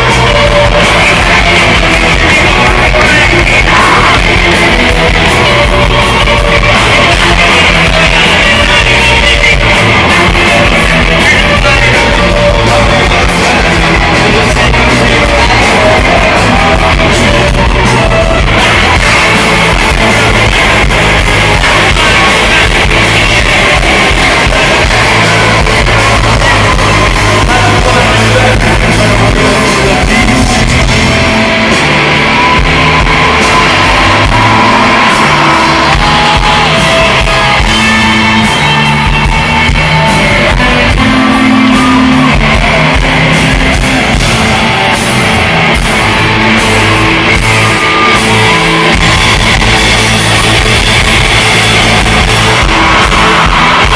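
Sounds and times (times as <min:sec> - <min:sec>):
bass guitar: 0:00.0 - 0:53.9
drums: 0:00.0 - 0:53.9
electric guitars: 0:00.0 - 0:53.9
person shouting and singing: 0:00.0 - 0:53.9.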